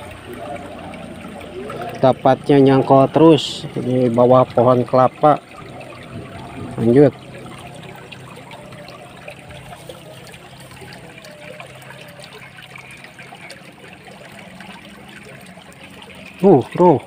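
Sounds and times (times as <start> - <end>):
water trickling in ditch: 0.0 - 17.0.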